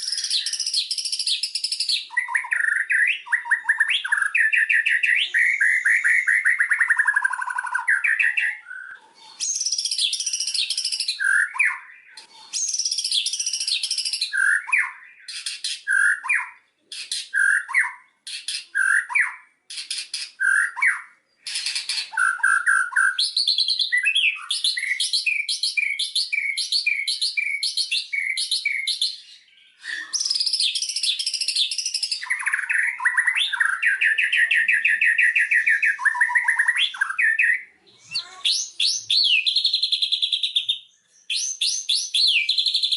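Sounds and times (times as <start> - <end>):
bird singing whistled phrases: 0.0 - 42.9.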